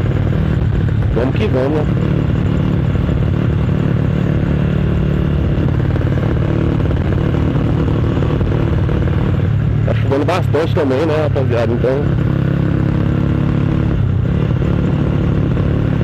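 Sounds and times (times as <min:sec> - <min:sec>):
motorcycle exhaust note: 0:00.0 - 0:16.0.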